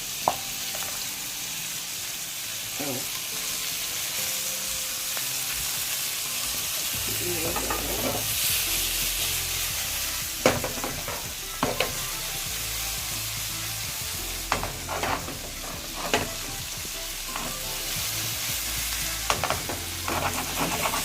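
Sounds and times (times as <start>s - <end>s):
shrimp sizzling in oil: 0.0s - 21.0s.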